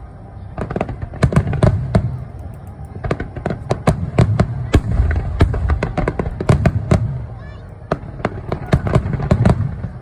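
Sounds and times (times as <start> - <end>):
fireworks bursting: 0.4 - 10.0.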